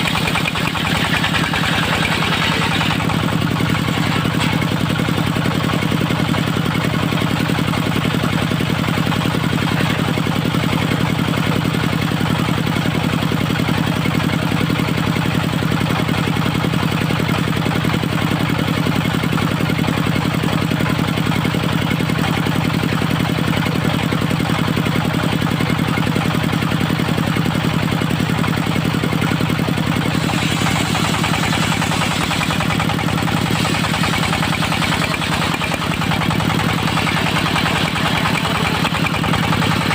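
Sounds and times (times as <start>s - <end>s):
sawmill diesel engine running: 0.0s - 39.9s.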